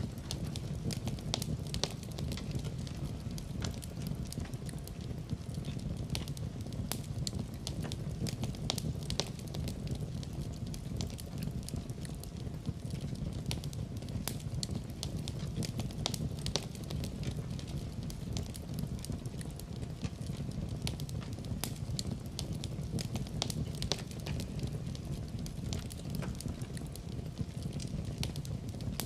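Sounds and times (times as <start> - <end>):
flames rumbling: 0.0 - 29.0
wood fire crackling and popping: 0.0 - 29.0.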